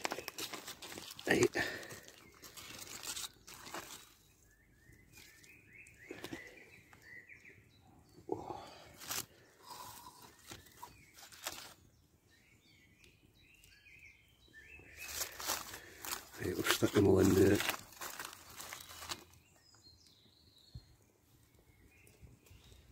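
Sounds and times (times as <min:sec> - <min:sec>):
faint bird chirps: 0:00.1 - 0:22.9.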